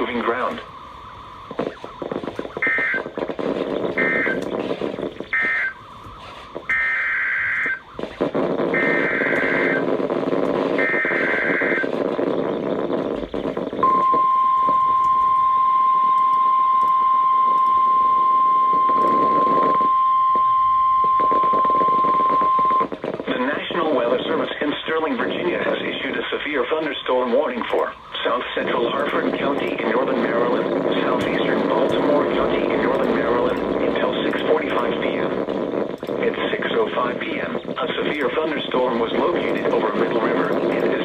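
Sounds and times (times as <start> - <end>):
buzzing data bursts: 0.0 - 6.0, 6.6 - 23.2, 28.0 - 41.0
steady warning alarm tone: 0.0 - 23.0, 26.0 - 41.0
radio static: 0.0 - 41.0.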